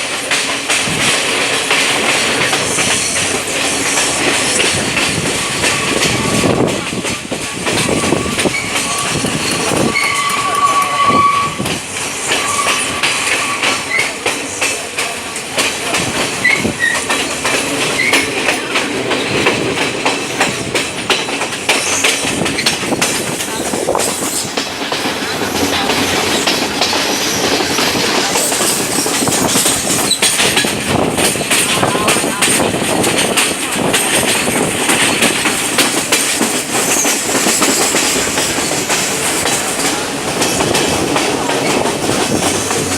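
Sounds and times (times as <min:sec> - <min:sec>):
train wheels clattering: 0:00.0 - 0:42.9.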